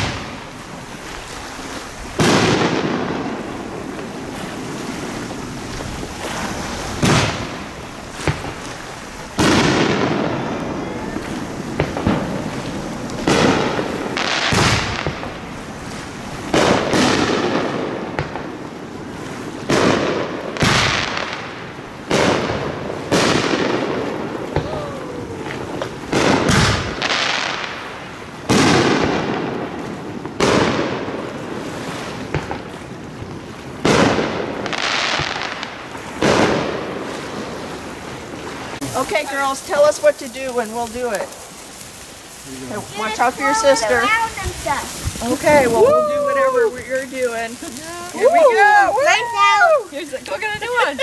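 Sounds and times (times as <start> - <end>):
crackling hiss of sparks: 0.0 - 51.0
fireworks bangs: 0.0 - 51.0.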